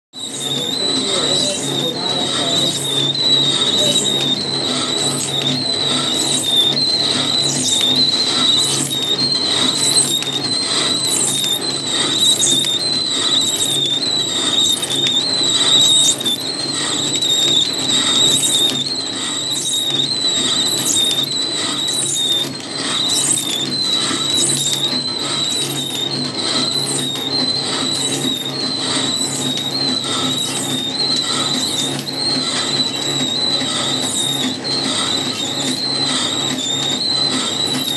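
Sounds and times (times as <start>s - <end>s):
packing machine whine: 0.1s - 37.9s.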